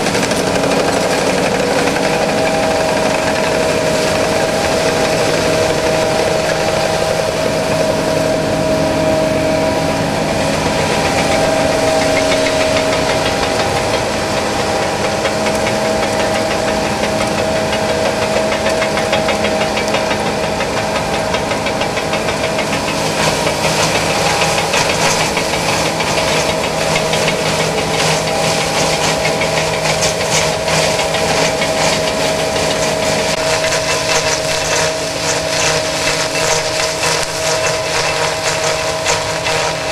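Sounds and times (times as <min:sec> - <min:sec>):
combine harvester running: 0:00.0 - 0:39.9
fast ticking rattle: 0:00.0 - 0:39.9
steady whine: 0:00.0 - 0:39.9.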